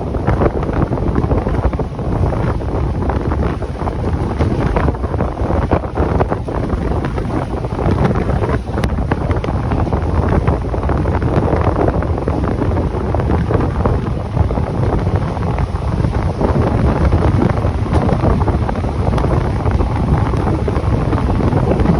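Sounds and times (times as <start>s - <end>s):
train running rumble: 0.0s - 21.9s
wind rushing against microphone: 0.0s - 21.9s.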